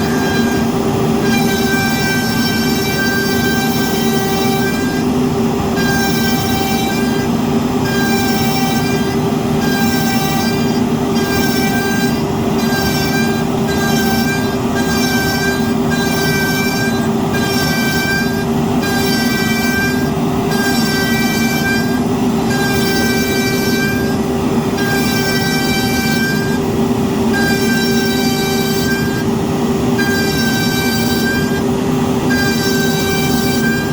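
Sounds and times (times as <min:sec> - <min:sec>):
cnc router cutting whine: 0:00.0 - 0:33.9
dust extractor droning: 0:00.0 - 0:33.9.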